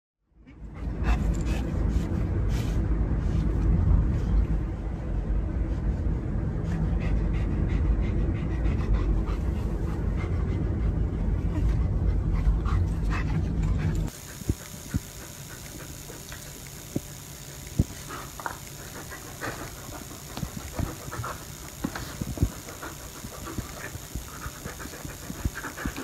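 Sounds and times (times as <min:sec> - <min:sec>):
dog panting: 0:00.5 - 0:02.9, 0:06.2 - 0:26.0.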